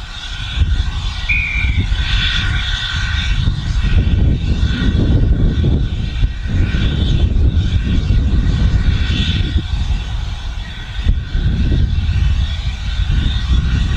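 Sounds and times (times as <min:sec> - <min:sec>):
steam locomotive hissing: 0:00.0 - 0:13.9.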